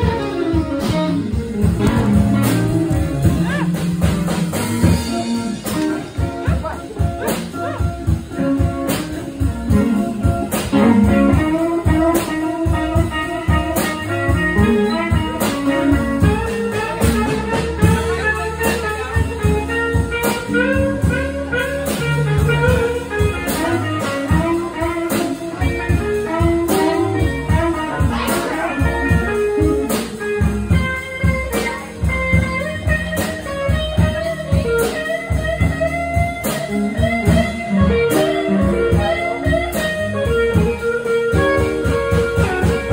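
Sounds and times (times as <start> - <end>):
drums steady beat: 0.0 - 42.9
guitar: 0.0 - 42.9
live blues band playing: 0.0 - 42.9.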